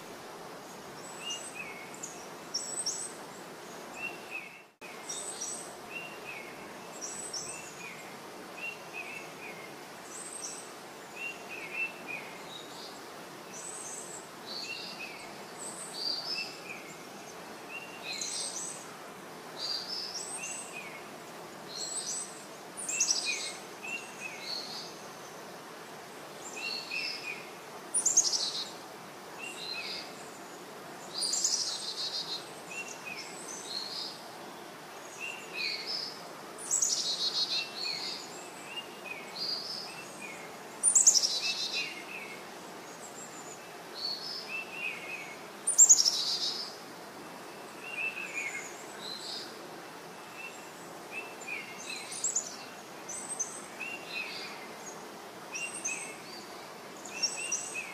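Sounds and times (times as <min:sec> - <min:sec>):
steady hiss: 0:00.0 - 0:57.9.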